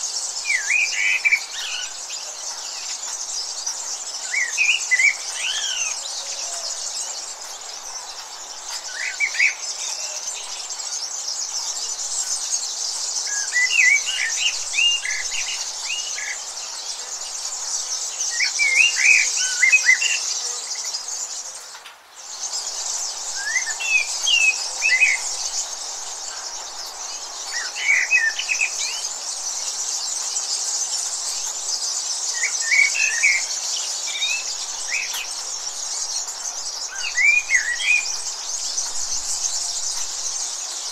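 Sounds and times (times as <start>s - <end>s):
high insect chorus: 0.0s - 40.9s
small birds chirping: 0.0s - 40.9s.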